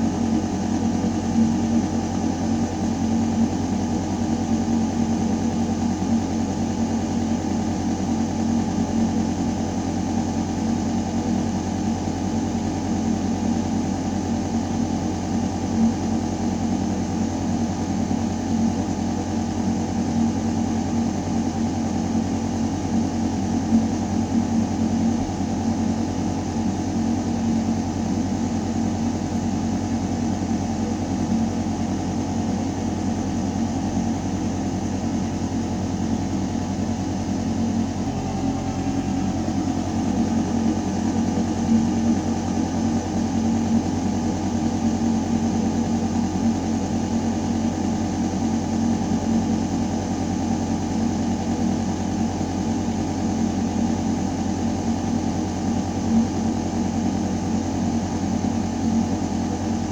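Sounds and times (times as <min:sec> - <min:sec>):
ventilation hum: 0:00.0 - 0:59.9.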